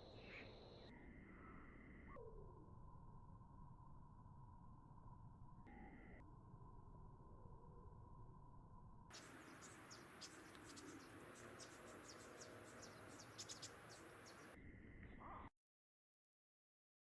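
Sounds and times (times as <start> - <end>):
crickets trilling: 0.1 - 14.6.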